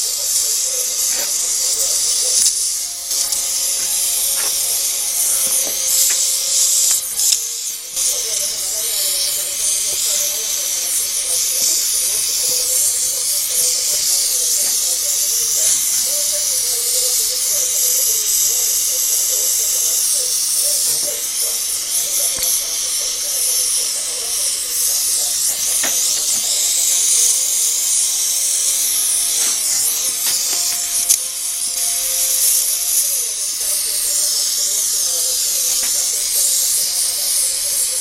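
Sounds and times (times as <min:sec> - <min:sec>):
gas torch flame hissing: 0:00.0 - 0:38.0.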